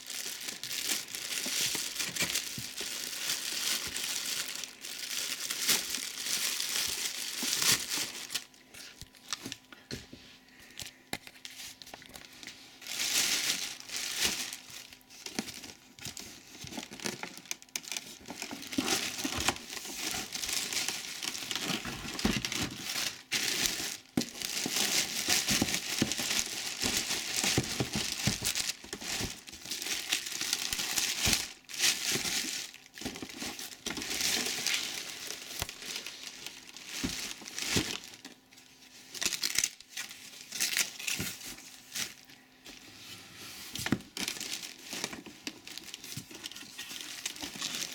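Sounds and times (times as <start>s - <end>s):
plastic packaging crinkling: 0.0s - 9.7s, 10.6s - 42.8s, 43.7s - 47.9s.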